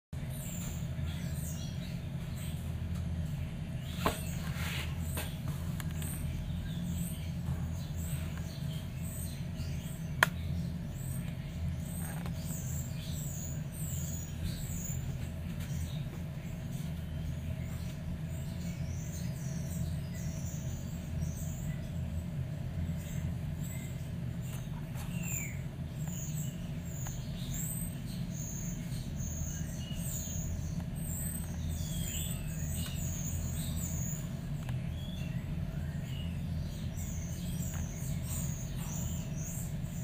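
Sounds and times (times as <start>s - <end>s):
steady low hum: 0.1s - 40.0s.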